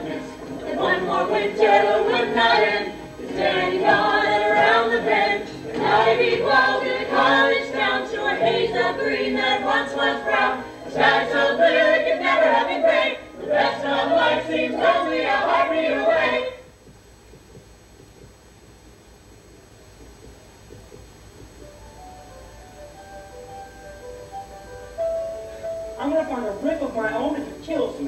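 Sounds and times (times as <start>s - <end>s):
ensemble singing show tune: 0.0s - 28.0s
faint room noise: 0.0s - 28.0s.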